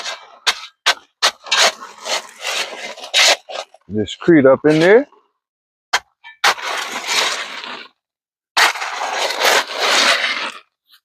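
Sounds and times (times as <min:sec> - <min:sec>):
gritty concrete scraping: 0:00.0 - 0:05.4, 0:06.0 - 0:11.0.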